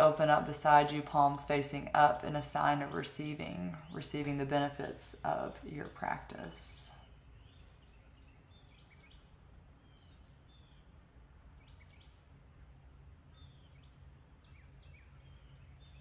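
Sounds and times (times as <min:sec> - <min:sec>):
low steady background hum: 0:00.0 - 0:16.0.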